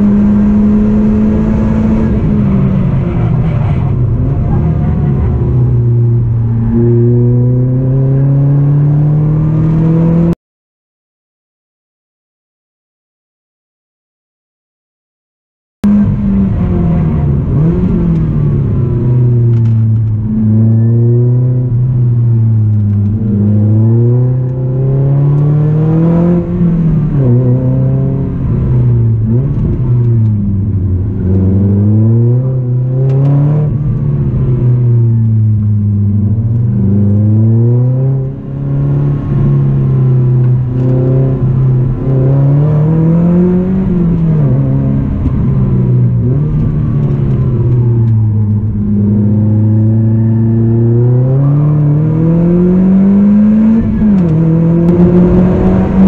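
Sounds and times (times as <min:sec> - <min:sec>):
car engine revving from cabin: 0:00.0 - 0:10.4, 0:15.9 - 0:56.0.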